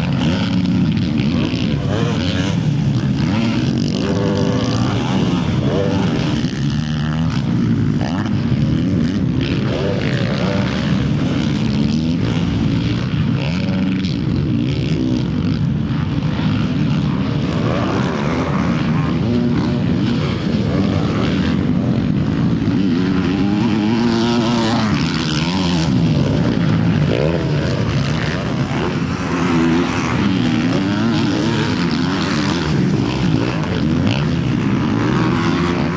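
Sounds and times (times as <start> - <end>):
motocross bike engines revving: 0.0 - 35.9.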